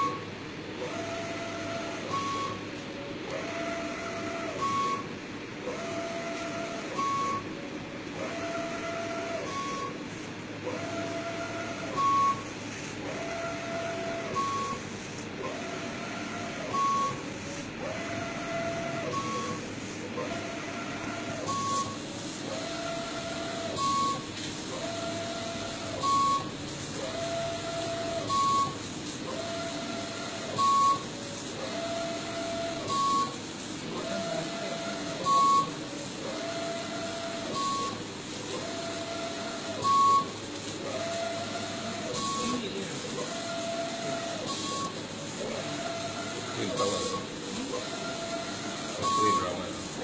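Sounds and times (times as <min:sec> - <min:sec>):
printer carriage whine: 0:00.0 - 0:50.0.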